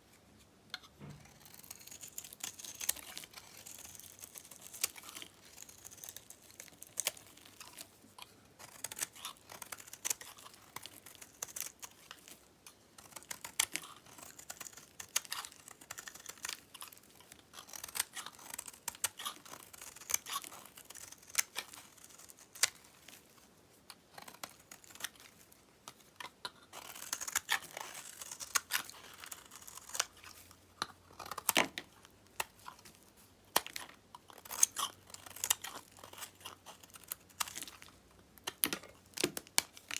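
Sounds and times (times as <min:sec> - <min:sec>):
dried soap crackling and snapping: 0:01.0 - 0:39.9.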